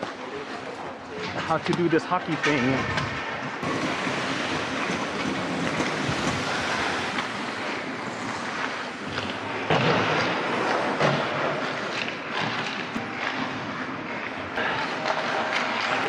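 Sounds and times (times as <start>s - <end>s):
skates scraping on ice: 0.0s - 16.0s.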